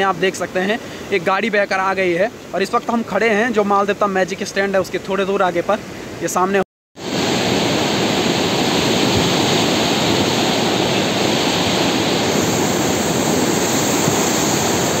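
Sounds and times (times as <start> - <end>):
floodwater rushing roar: 0.0 - 15.0.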